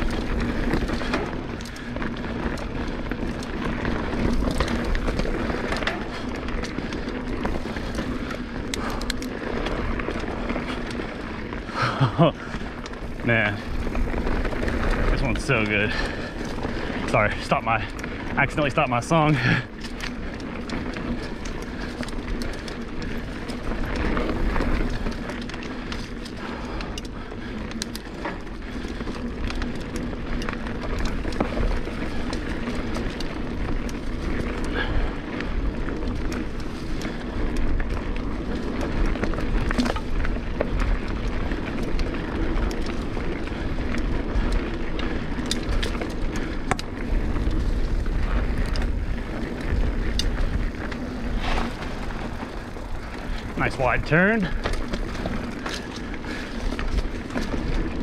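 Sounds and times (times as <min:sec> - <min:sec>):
bike rattling over bumps: 0:00.0 - 0:58.0
bike tyres rolling on dirt: 0:00.0 - 0:58.0.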